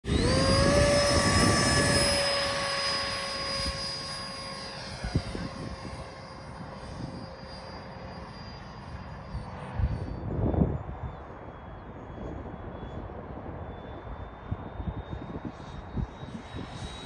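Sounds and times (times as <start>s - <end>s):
model jet fan whine: 0.0s - 17.0s.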